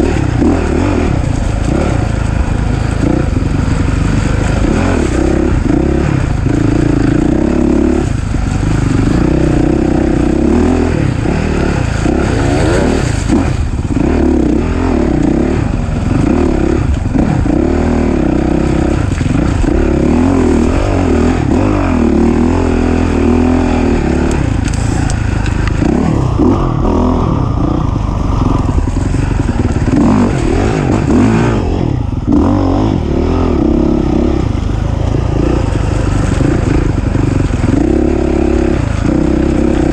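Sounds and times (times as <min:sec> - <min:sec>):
racing engine revving: 0:00.0 - 0:39.9.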